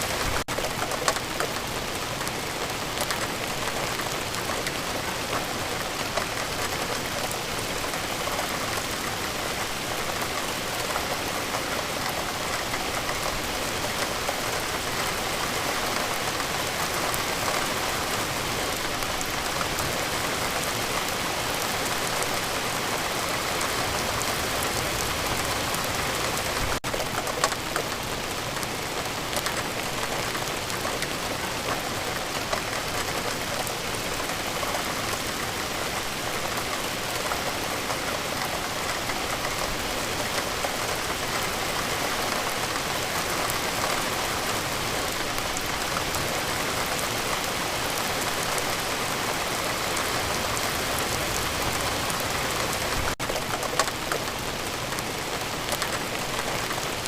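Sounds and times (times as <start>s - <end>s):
steady rainfall: 0.0s - 57.0s
raindrop ticks: 0.1s - 57.0s.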